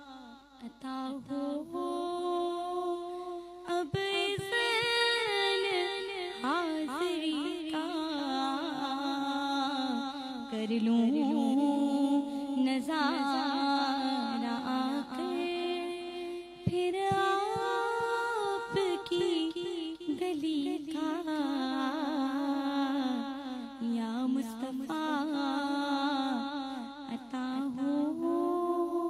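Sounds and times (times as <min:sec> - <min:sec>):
woman singing unaccompanied: 0:00.0 - 0:29.0.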